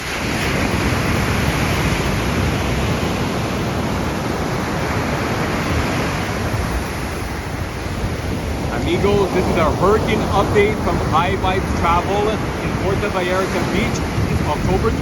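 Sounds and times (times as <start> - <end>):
surf rolling onto beach: 0.0 - 15.0
wind rumbling on microphone: 0.0 - 15.0.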